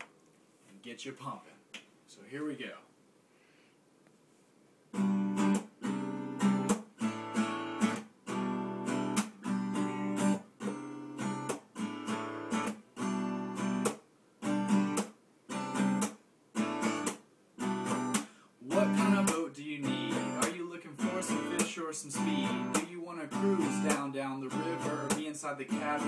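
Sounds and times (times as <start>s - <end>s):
acoustic guitar strumming chords: 5.0s - 26.0s.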